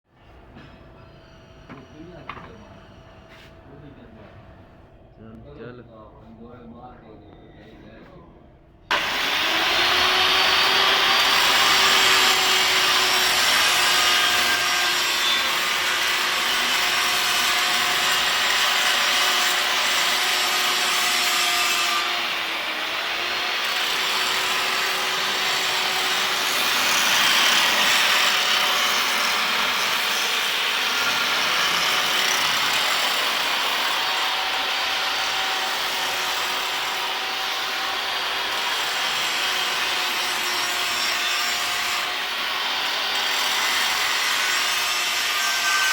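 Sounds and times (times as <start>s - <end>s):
angle grinder grinding: 8.9s - 45.9s.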